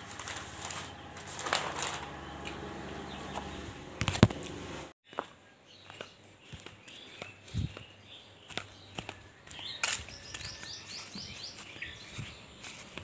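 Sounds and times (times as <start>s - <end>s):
outdoor background noise: 0.0s - 13.0s
bird chirping: 2.0s - 13.0s.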